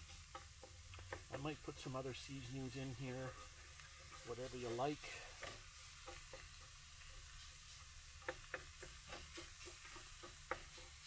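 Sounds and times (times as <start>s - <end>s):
wooden spoon tapping a pan: 0.0s - 1.9s, 3.2s - 11.0s.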